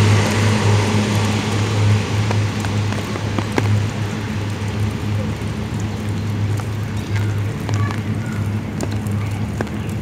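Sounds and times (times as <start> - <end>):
distant turboprop engine drone: 0.0 - 10.0
light rain pattering: 0.0 - 10.0.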